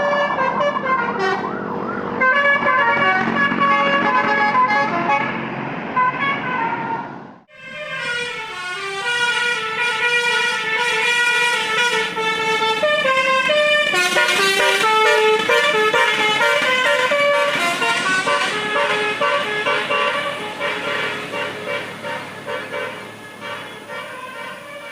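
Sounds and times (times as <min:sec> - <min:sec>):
multi-tone bus horn melody: 0:00.0 - 0:24.9.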